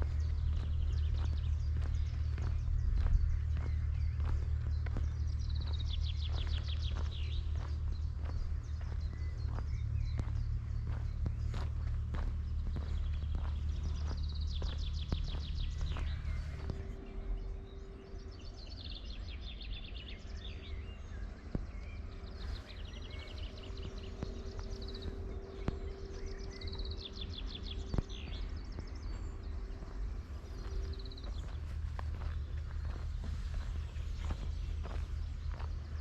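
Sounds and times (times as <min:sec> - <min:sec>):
faint steady hum: 0:00.0 - 0:36.0
low outdoor rumble: 0:00.0 - 0:36.0.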